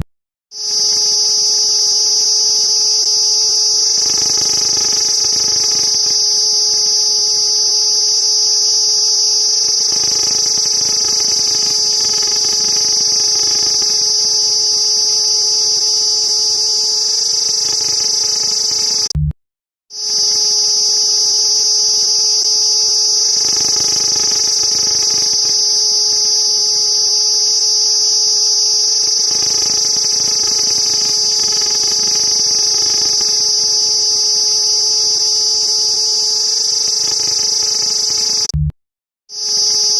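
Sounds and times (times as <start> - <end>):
cicada buzzing: 0.6 - 19.1, 20.0 - 38.5, 39.4 - 39.9.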